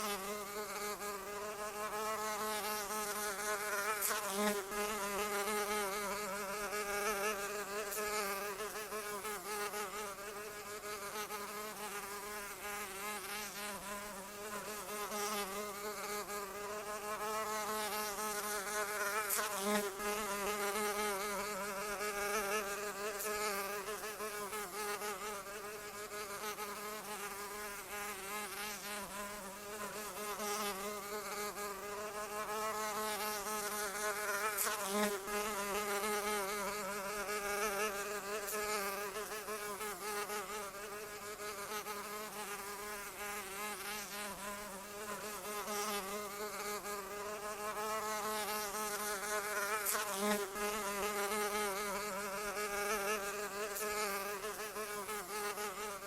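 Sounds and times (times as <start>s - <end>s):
flying insect buzzing: 0.0s - 56.0s.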